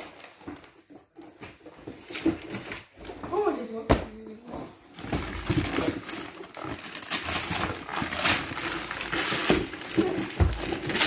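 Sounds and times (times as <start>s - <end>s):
paper rustling and crinkling: 0.0s - 3.8s, 4.4s - 11.0s.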